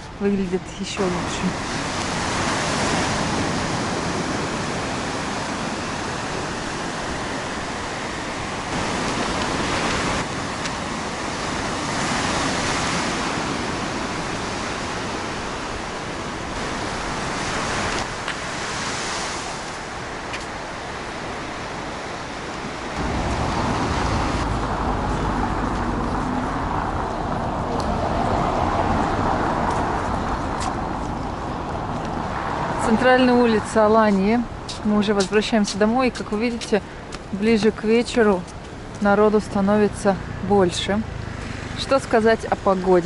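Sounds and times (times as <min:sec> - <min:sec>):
street traffic: 0:00.0 - 0:19.1, 0:22.8 - 0:43.0
sea waves breaking on shore: 0:00.0 - 0:43.0.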